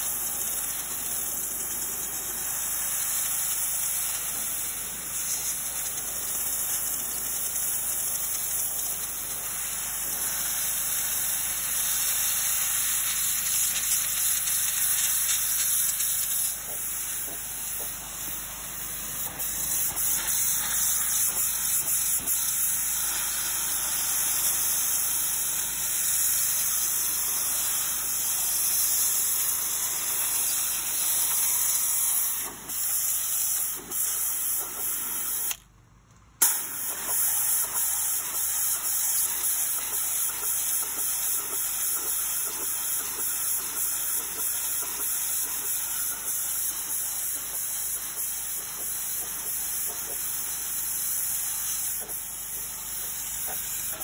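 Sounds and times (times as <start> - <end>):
pressure washer spraying brick: 0.0 - 35.6, 36.4 - 54.0.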